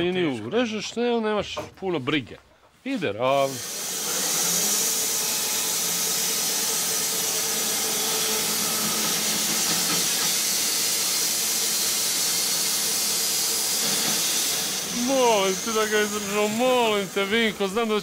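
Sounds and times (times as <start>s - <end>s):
band saw hissing: 2.9s - 18.0s.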